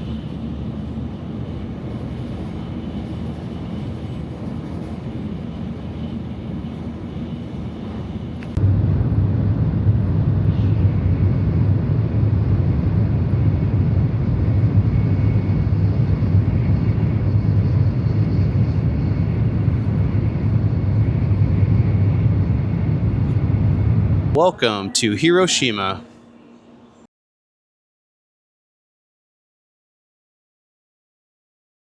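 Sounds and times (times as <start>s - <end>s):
bullet train rumble: 0.0s - 26.2s.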